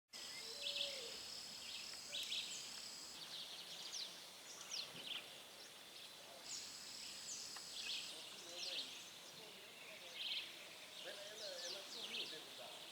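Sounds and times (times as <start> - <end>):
birds chirping and calling: 0.3 - 5.3, 6.4 - 12.9.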